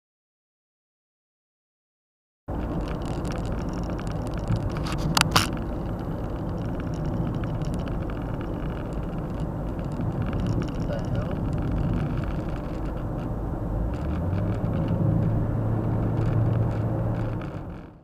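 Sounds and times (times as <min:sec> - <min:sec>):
car road and engine noise: 0:02.5 - 0:18.0.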